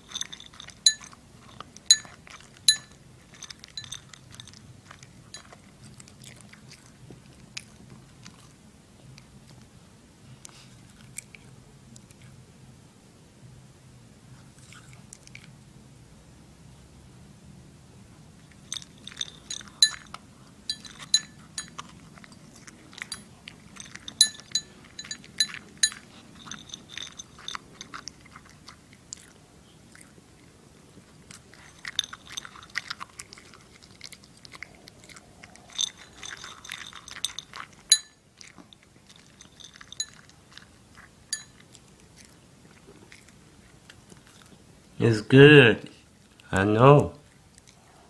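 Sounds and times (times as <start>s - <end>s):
dog crunching dog food: 0.0s - 12.4s, 14.4s - 15.6s, 18.4s - 45.2s, 46.1s - 48.0s.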